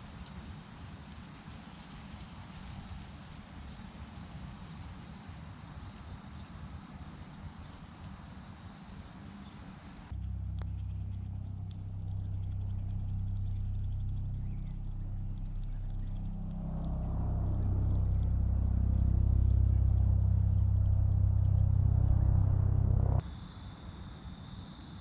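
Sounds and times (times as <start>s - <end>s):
low engine hum: 0.2s - 23.2s.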